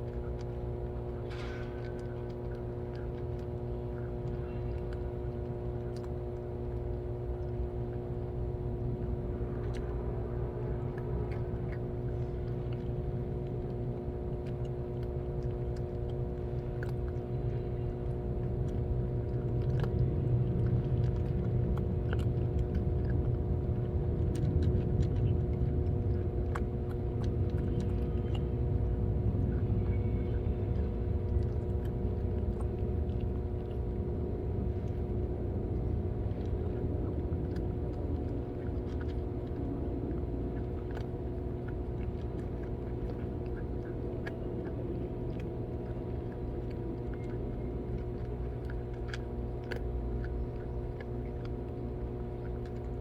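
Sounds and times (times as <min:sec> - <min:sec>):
cats crunching food: 0:00.0 - 0:53.0
machine hum and low rumble: 0:00.0 - 0:53.0.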